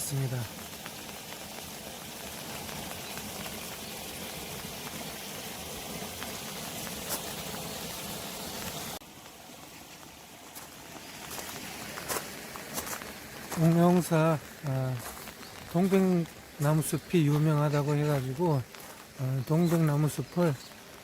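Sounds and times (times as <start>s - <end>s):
faint hiss: 0.0s - 21.0s
rushing water: 0.0s - 21.0s.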